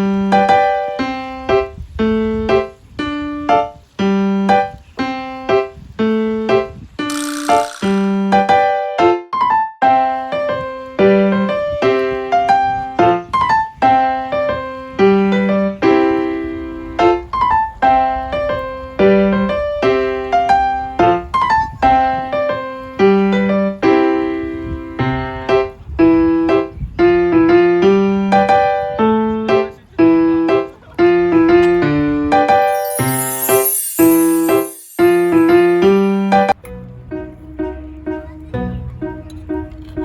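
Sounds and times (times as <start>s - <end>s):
light piano tune: 0.0s - 40.0s.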